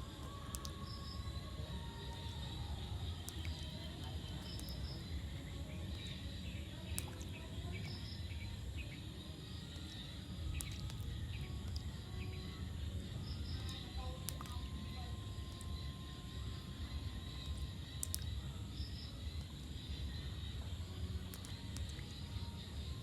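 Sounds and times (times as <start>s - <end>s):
faint high chirps: 0.0s - 23.0s
steady low rumble: 0.0s - 23.0s
water dripping: 0.0s - 23.0s.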